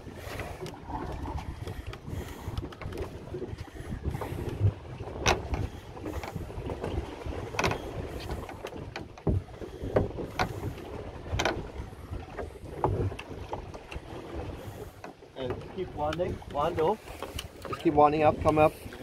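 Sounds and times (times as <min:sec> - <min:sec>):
wind and water rumble: 0:00.0 - 0:19.0.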